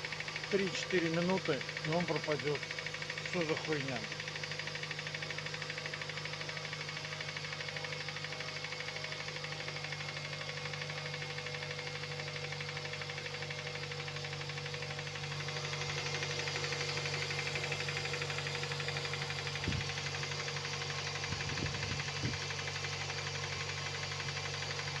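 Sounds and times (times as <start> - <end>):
engine idling with knocking: 0.0 - 25.0.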